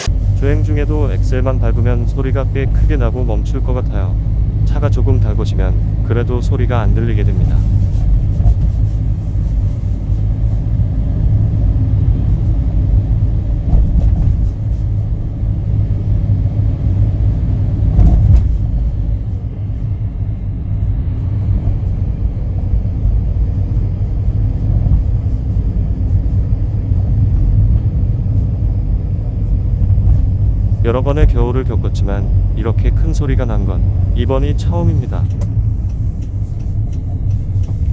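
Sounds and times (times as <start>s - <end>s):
car engine rumbling: 0.0s - 37.9s.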